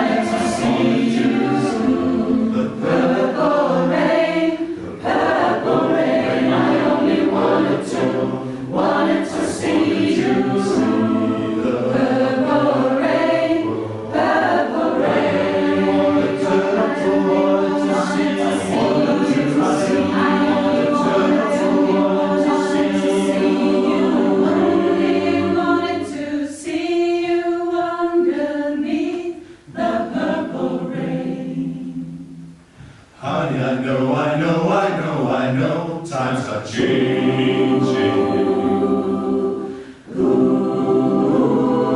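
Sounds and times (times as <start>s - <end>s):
choir singing a cappella: 0.0s - 41.9s.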